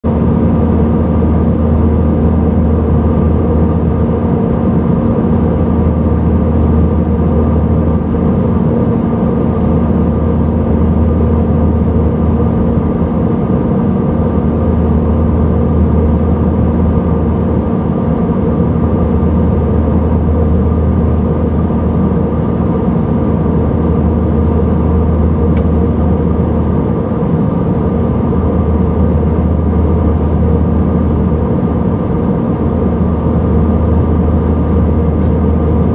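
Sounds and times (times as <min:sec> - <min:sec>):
airliner cabin drone: 0:00.0 - 0:35.9.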